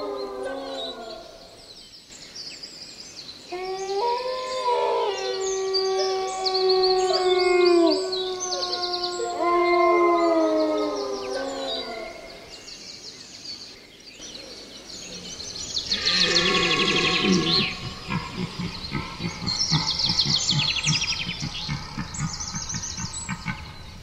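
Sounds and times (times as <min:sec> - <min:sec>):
animals howling: 0:00.0 - 0:01.6, 0:03.5 - 0:12.7, 0:15.1 - 0:24.0
small birds trilling: 0:00.0 - 0:24.0.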